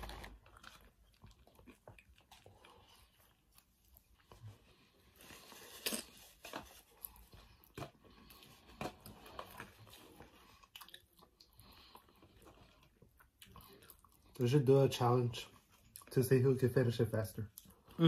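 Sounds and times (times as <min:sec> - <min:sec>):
people chewing food: 0:00.0 - 0:16.7, 0:17.4 - 0:18.0.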